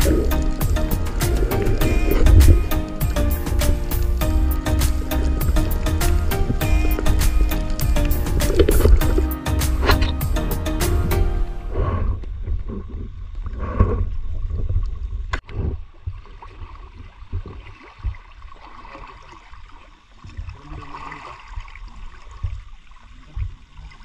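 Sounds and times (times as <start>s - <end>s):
sea water sloshing: 0.0s - 10.2s, 11.2s - 24.0s.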